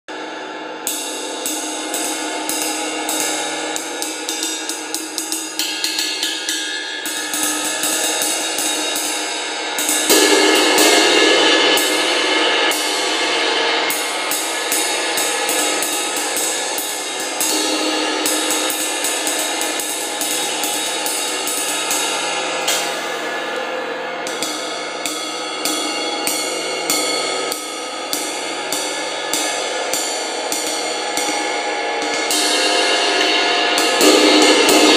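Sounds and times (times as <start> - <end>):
ride cymbal played with drumstick: 0.1 - 34.9.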